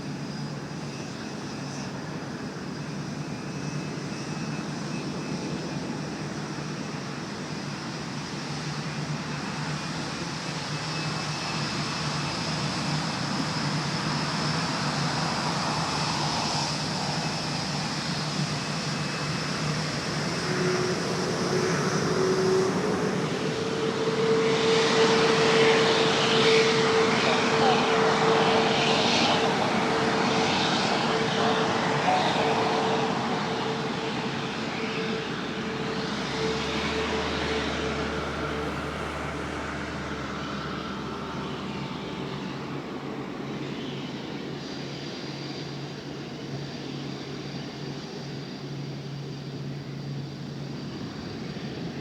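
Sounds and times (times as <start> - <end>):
jet airliner engines rushing: 0.0 - 52.0.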